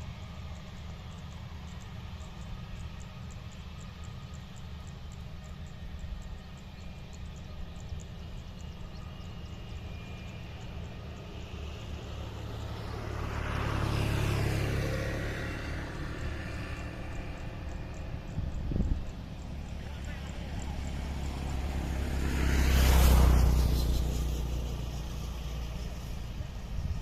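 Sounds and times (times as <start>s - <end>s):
jet airliner passing: 0.0s - 27.0s.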